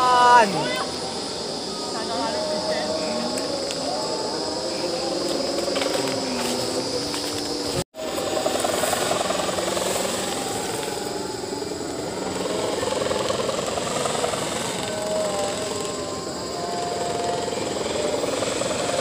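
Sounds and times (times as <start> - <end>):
kite hummer buzzing drone: 0.0 - 19.0.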